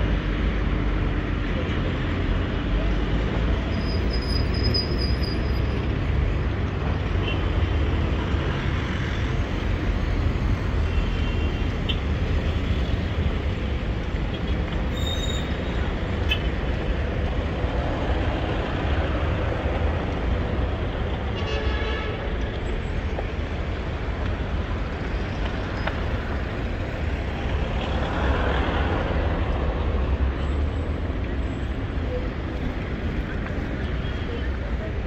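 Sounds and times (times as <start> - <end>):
passing traffic rumble: 0.0 - 35.0.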